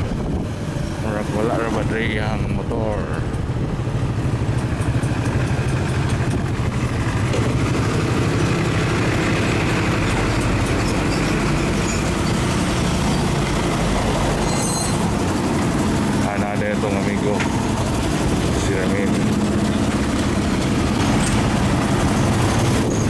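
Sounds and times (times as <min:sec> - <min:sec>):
small motorcycle engine running: 0:00.2 - 0:23.0.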